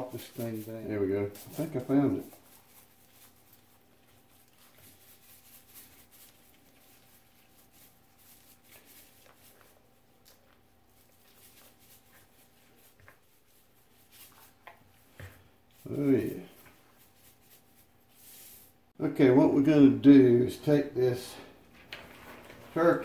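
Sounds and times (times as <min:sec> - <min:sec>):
salt sprinkling on skin: 0:00.0 - 0:18.8
faint steady hum: 0:00.0 - 0:23.0.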